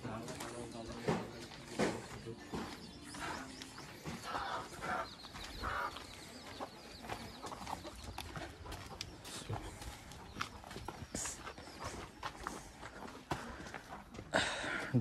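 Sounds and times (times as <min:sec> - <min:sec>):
footsteps scuffing on dirt: 0:00.0 - 0:14.3
chickens clucking: 0:00.0 - 0:15.0.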